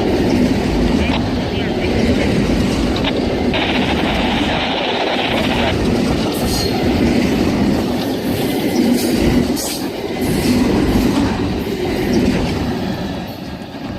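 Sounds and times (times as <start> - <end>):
train cars rumbling past: 0.0 - 13.9
wheels clacking over rail joints: 0.0 - 13.9.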